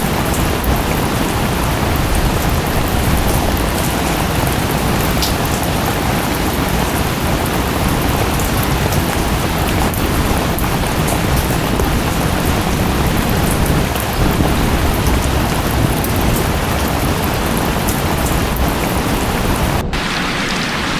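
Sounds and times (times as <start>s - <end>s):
rush of falling water: 0.0s - 20.9s.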